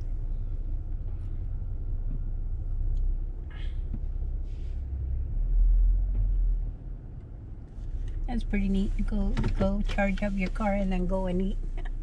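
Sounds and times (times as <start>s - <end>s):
car rolling low rumble: 0.0s - 12.0s.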